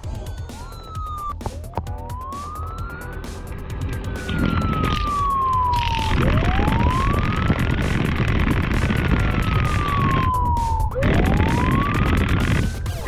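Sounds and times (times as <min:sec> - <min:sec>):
electronic wailing siren: 0:00.3 - 0:13.0.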